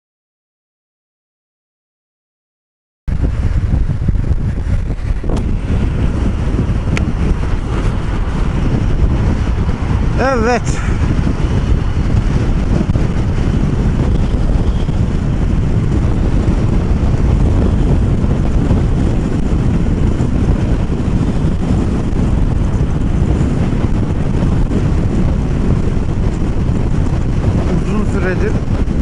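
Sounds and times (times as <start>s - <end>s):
scooter engine and tyre noise: 3.1s - 29.0s
wind rush on microphone: 3.1s - 29.0s.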